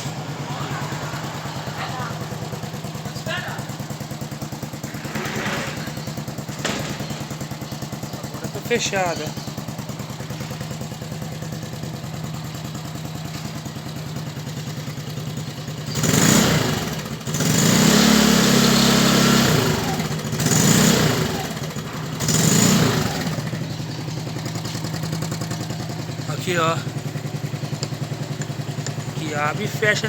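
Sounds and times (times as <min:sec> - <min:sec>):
motorcycle idling and revving: 0:00.0 - 0:30.0.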